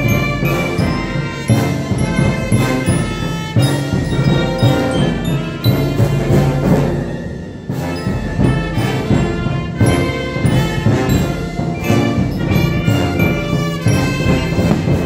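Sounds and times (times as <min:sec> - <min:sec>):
accented percussion beats: 0:00.0 - 0:15.0
procession band playing: 0:00.0 - 0:15.0.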